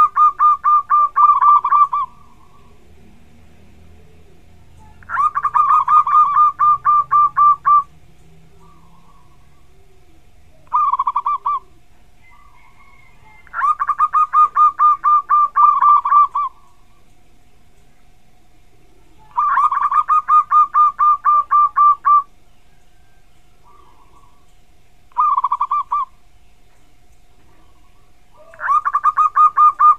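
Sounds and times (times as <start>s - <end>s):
dove cooing: 0.0s - 24.5s, 25.1s - 26.3s, 27.4s - 29.9s
faint steady hum: 0.0s - 29.9s.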